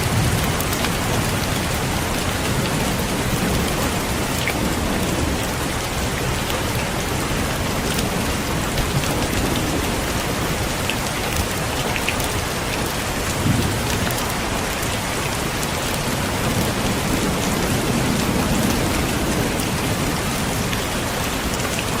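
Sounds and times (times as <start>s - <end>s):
distant thunder rumbling: 0.0s - 10.7s, 13.3s - 22.0s
heavy rain falling: 0.0s - 22.0s.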